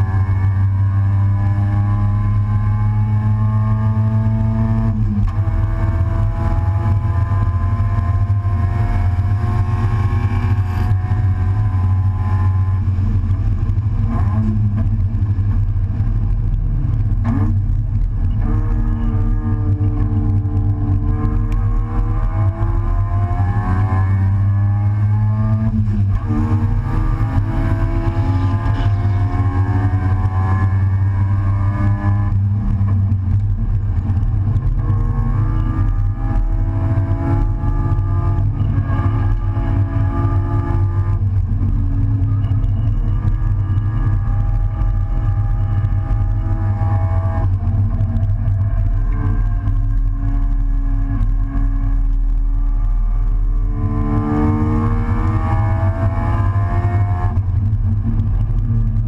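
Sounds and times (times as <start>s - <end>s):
race car engine at speed: 0.0s - 59.0s
wind and road noise rumble: 0.0s - 59.0s.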